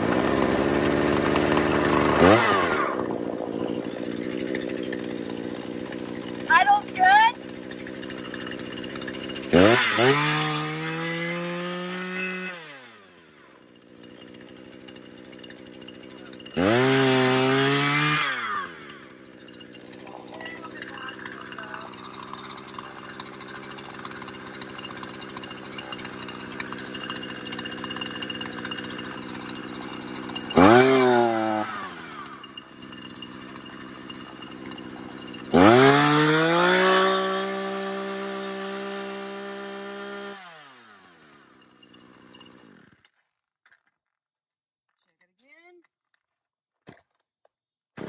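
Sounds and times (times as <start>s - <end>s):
chainsaw idling and revving: 0.0s - 43.2s.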